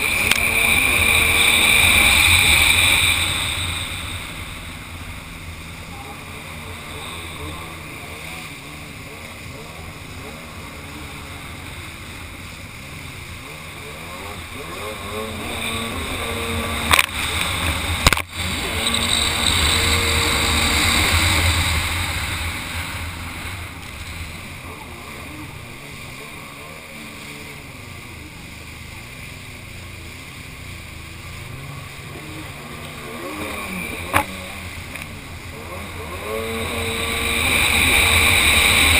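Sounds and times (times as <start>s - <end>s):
jet ski engine revving: 0.0s - 38.9s
water rushing: 0.0s - 38.9s.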